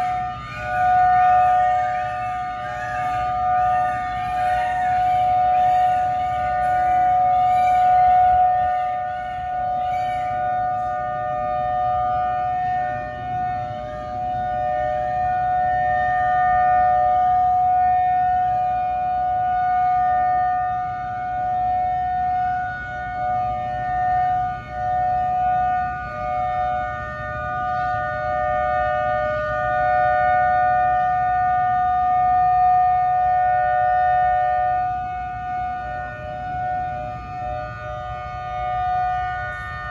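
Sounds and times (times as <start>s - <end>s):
two-note warning siren wail: 0.0s - 39.9s.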